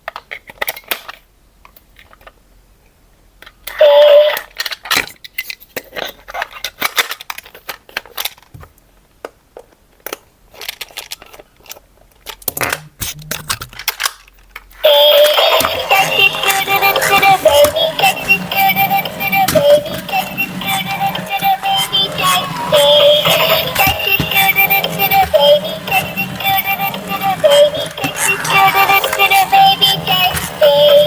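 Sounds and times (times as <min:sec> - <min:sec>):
plastic parts clicking and clacking: 0:00.0 - 0:02.4, 0:03.4 - 0:31.0.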